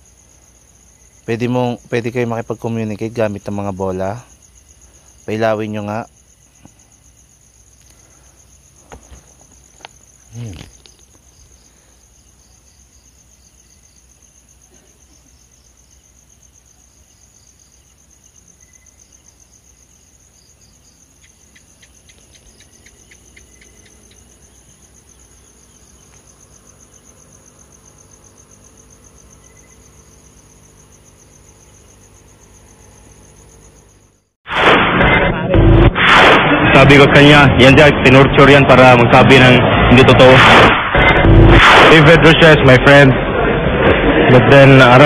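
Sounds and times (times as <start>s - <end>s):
crickets chirring: 0.0s - 45.0s.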